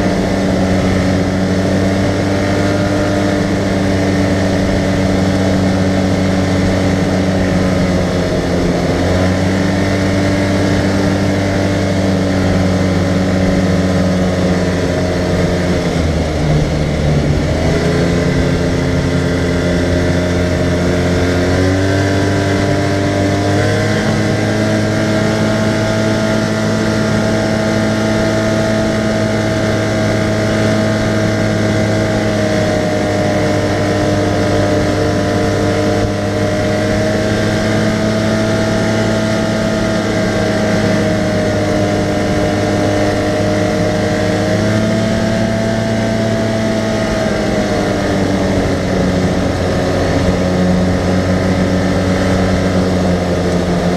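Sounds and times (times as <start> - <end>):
utility vehicle engine running: 0.0 - 53.9.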